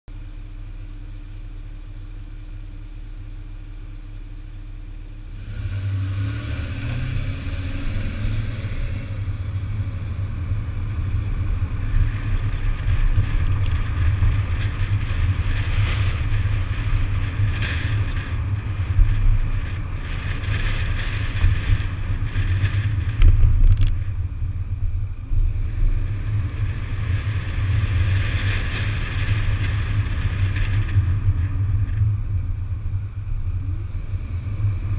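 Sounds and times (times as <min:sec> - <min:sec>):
car engine running: 0:00.1 - 0:34.9
tyre and road rumble: 0:05.2 - 0:34.9.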